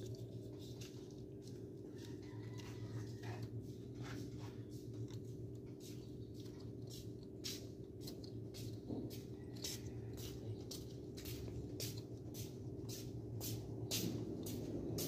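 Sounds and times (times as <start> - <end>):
light clicks and scratches: 0.0 - 13.1
faint low hum: 0.0 - 15.0.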